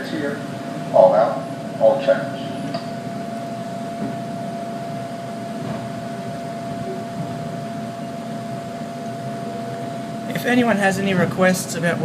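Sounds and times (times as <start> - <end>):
electric train interior hum: 0.0 - 12.0.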